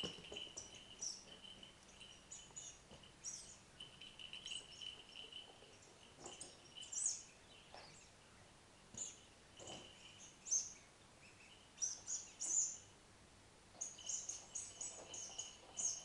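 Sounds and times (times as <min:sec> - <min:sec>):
small bird chirping: 0:00.0 - 0:13.0, 0:13.7 - 0:16.0.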